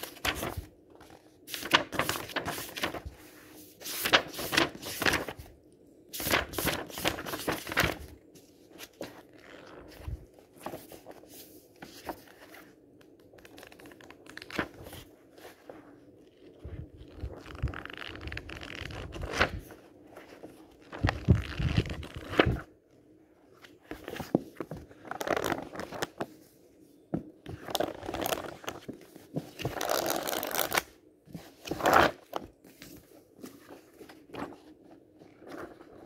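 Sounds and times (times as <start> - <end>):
book pages riffling: 0.0 - 5.5, 6.2 - 22.7, 23.6 - 26.4, 27.5 - 36.0.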